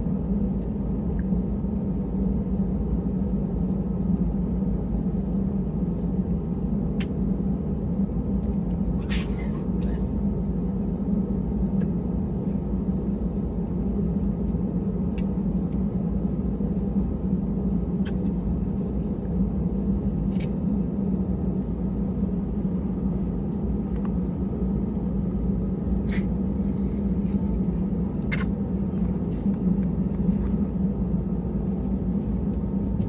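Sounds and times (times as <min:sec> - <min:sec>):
airliner cabin rumble and hum: 0:00.0 - 0:33.0.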